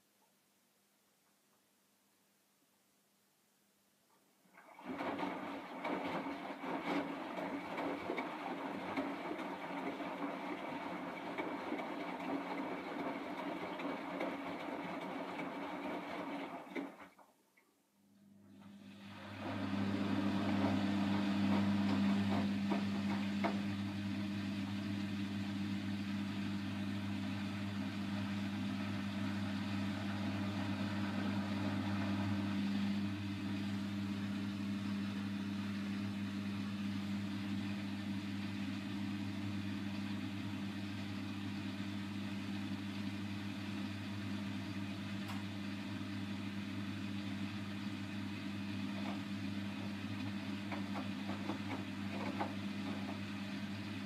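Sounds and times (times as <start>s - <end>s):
washing machine running: 4.5s - 17.3s, 18.2s - 54.0s.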